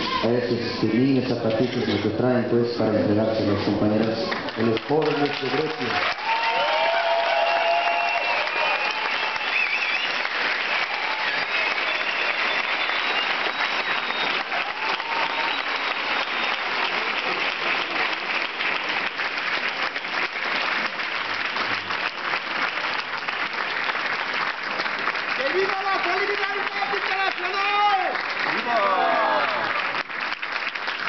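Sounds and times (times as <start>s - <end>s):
large crowd applauding: 3.9s - 31.0s.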